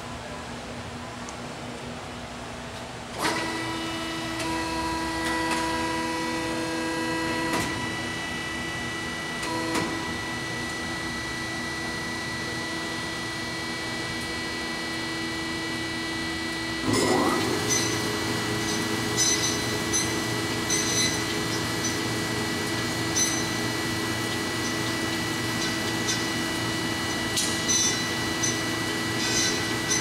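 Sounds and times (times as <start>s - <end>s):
band saw whine: 3.4s - 30.0s.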